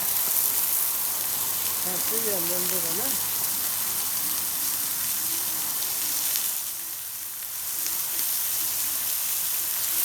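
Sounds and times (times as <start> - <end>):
barbecue grill sizzling: 0.0 - 10.0.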